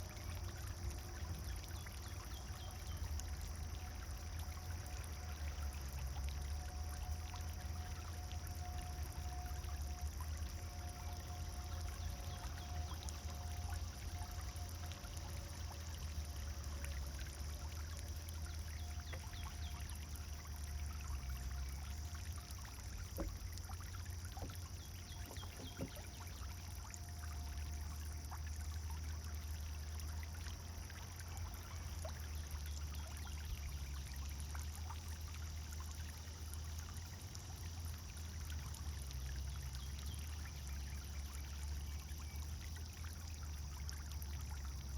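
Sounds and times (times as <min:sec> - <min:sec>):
fountain splashing into water: 0:00.0 - 0:44.9.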